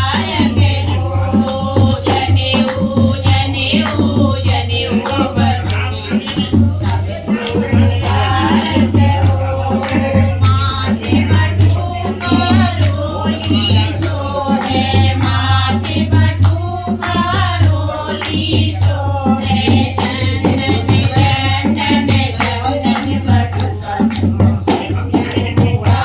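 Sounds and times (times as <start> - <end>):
folk song singing: 0.0 - 26.0
hand percussion: 0.0 - 26.0
steady drum beat: 0.0 - 26.0.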